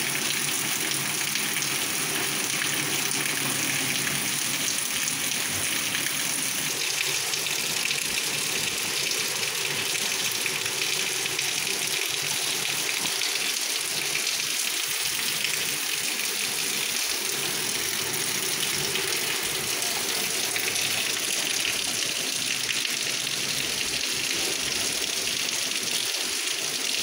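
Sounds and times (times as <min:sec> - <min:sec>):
heavy rain on flooded street: 0:00.0 - 0:27.0.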